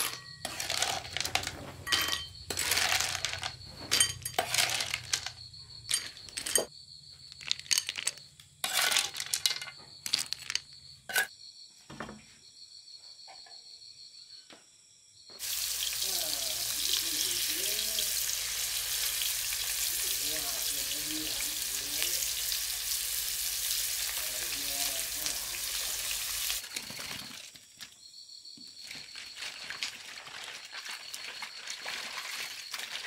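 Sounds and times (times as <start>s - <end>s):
small hard objects clattering: 0.0s - 11.3s, 15.4s - 28.0s, 28.8s - 33.0s.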